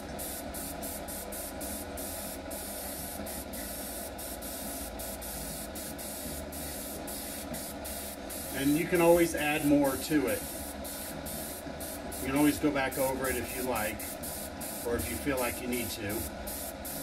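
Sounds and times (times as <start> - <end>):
airbrush spraying paint hiss: 0.0 - 17.0.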